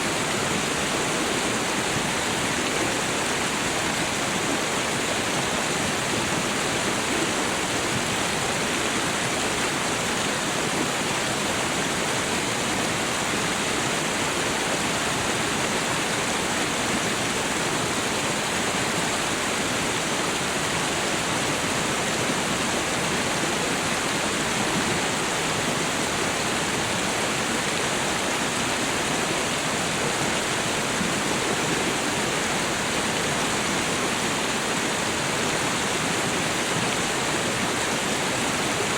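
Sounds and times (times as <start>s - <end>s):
water rushing over waterfall: 0.0s - 38.9s.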